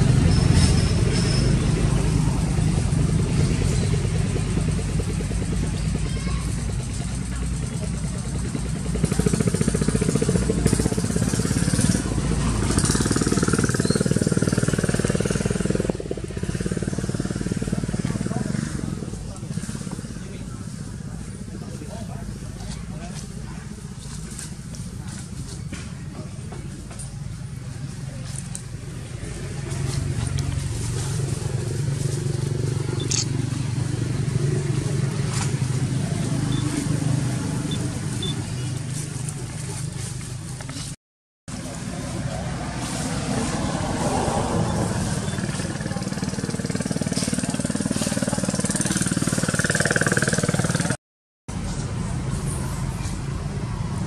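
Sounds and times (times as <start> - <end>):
small engine running: 0.0 - 25.8, 26.8 - 51.0.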